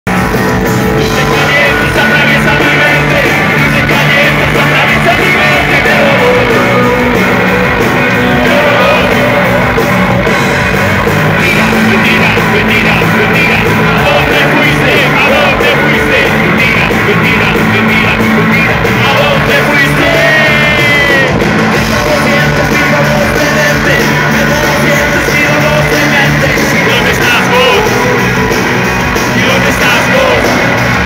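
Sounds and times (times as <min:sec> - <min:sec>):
drums driving: 0:00.0 - 0:31.0
electric bass notes: 0:00.0 - 0:31.0
live rock band playing: 0:00.1 - 0:31.0.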